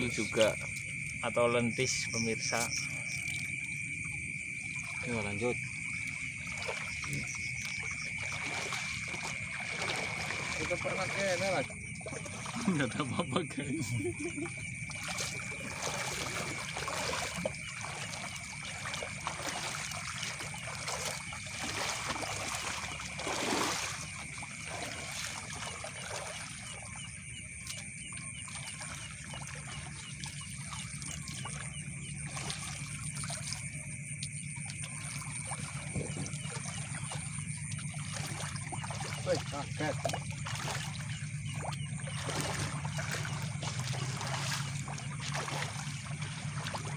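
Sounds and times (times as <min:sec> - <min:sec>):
night insects chorus: 0:00.0 - 0:46.9
water sloshing and trickling: 0:00.0 - 0:46.9
water splash: 0:04.4 - 0:46.9.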